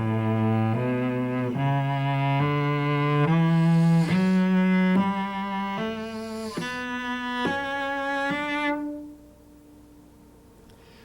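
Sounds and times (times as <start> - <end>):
solo cello playing a scale: 0.0 - 9.4.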